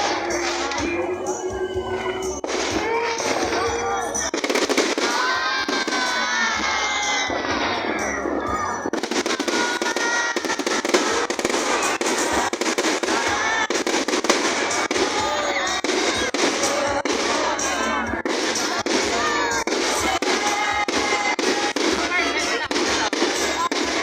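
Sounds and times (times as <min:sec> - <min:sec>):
fireworks crackling and popping: 0:00.0 - 0:24.0.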